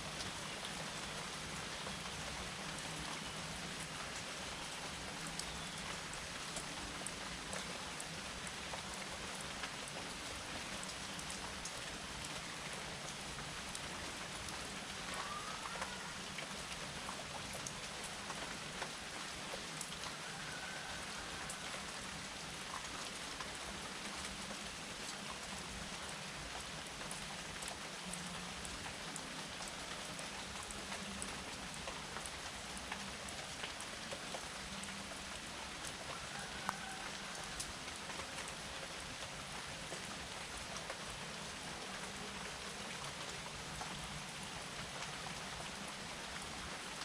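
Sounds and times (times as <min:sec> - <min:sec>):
raindrops ticking on a surface: 0:00.0 - 0:47.0
steady rain falling: 0:00.0 - 0:47.0.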